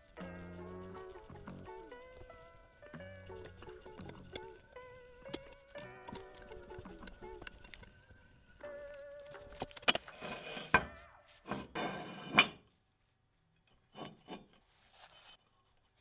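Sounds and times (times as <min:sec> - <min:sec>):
metal scraping and rubbing: 0:00.0 - 0:12.8, 0:13.7 - 0:16.0.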